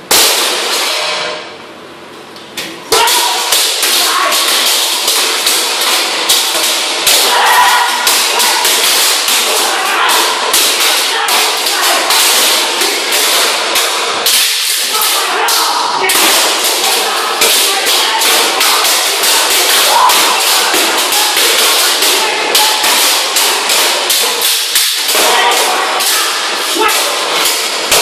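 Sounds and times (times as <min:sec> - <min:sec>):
swords clashing on metal shields: 0:00.0 - 0:01.5, 0:02.9 - 0:28.0.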